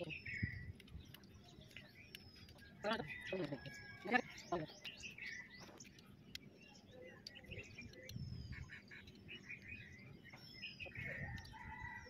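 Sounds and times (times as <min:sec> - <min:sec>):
bird chirps and calls: 0:00.0 - 0:12.0.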